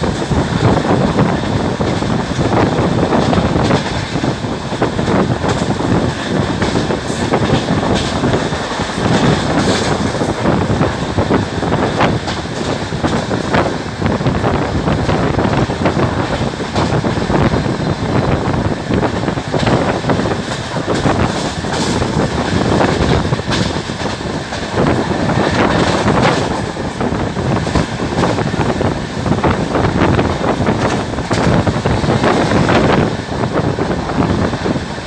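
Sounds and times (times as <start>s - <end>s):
train wheels rumbling on rails: 0.0s - 35.0s
wind buffeting microphone: 0.0s - 35.0s.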